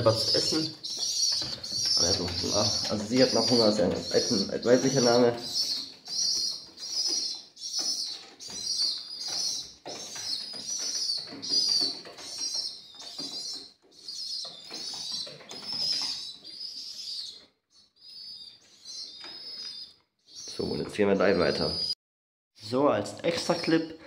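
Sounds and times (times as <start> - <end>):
pigeons cooing: 0.0 - 21.9
pigeons squeaky calls: 0.0 - 22.0.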